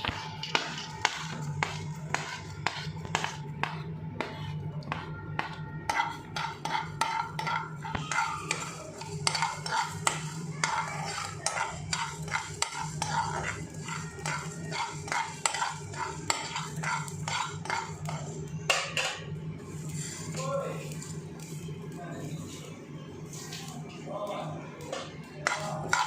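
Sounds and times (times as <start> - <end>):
metal spatula scraping spices: 0.0 - 18.4, 19.6 - 21.6, 25.3 - 26.0.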